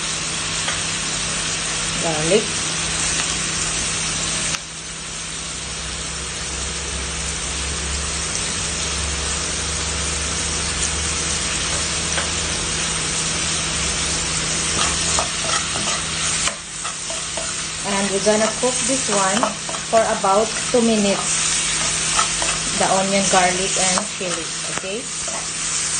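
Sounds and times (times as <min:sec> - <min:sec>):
onions sizzling in oil: 0:00.0 - 0:25.9.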